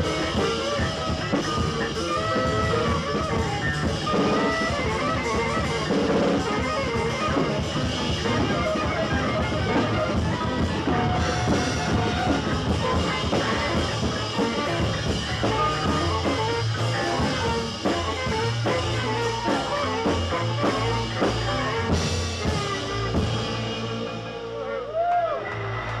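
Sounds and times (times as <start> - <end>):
alto saxophone melody: 0.0 - 24.6
bass notes: 0.0 - 26.0.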